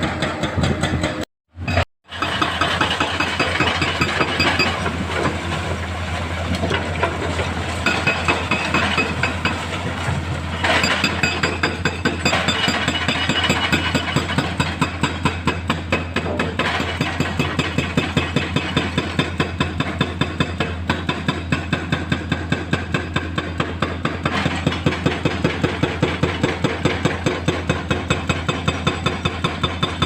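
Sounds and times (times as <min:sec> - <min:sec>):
heavy diesel engine clattering: 0:00.0 - 0:30.0.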